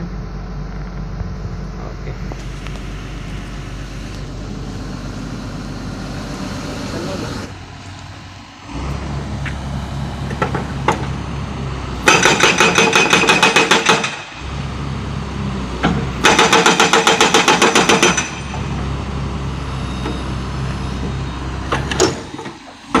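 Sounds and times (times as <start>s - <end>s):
diesel engine running: 0.0s - 23.0s
hydraulic breaker hammer blows: 3.5s - 14.8s, 15.7s - 23.0s.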